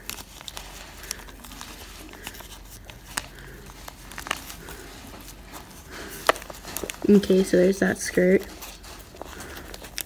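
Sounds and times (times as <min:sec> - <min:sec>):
fabric rustling: 0:00.0 - 0:10.0.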